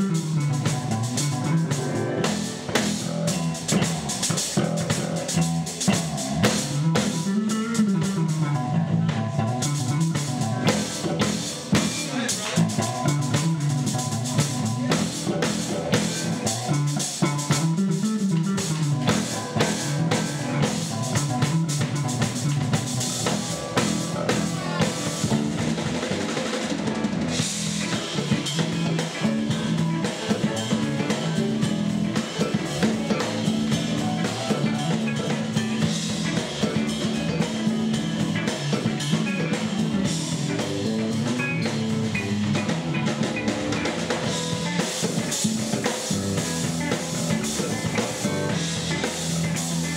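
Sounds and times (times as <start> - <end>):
drum kit with cymbals: 0.0 - 49.9
electric bass guitar line: 0.0 - 49.9.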